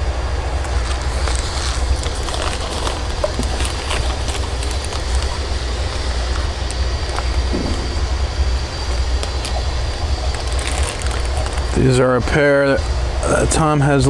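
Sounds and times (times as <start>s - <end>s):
low room rumble: 0.0s - 14.0s
plastic bags crinkling: 0.7s - 12.0s.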